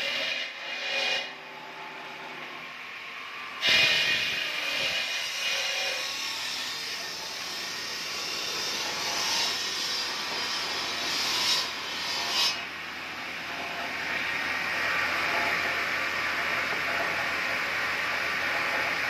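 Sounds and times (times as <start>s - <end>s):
stone saw cutting marble: 0.0s - 2.3s, 3.5s - 19.0s.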